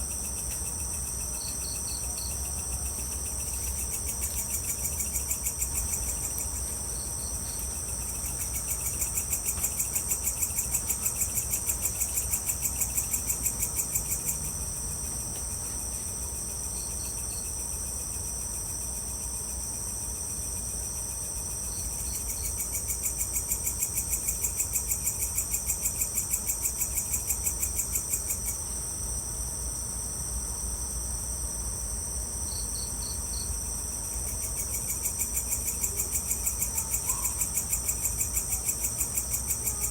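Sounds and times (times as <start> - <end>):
crickets chirping: 0.0 - 39.9
lower pulsing insect chorus: 0.0 - 39.9.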